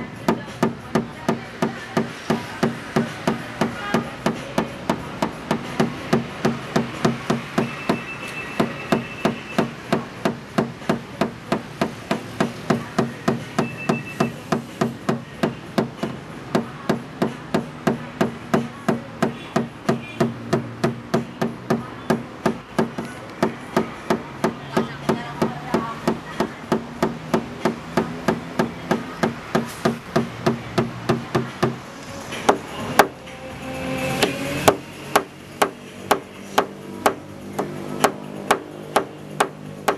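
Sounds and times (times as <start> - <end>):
hammer tapping sheet metal: 0.1 - 33.2.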